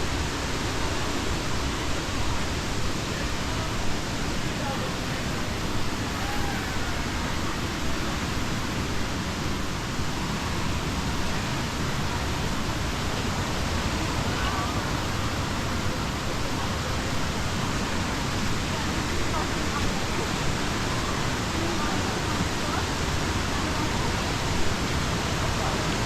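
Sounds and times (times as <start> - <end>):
waterfall: 0.0 - 26.0.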